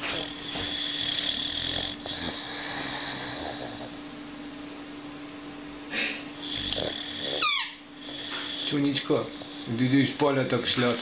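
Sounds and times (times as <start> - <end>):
dog snoring: 0.0 - 4.1, 6.0 - 11.0.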